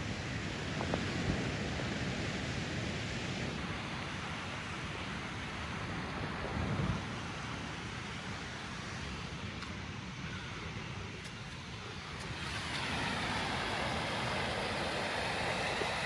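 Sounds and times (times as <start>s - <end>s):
wind rushing over microphone: 0.0s - 11.0s, 11.6s - 16.0s.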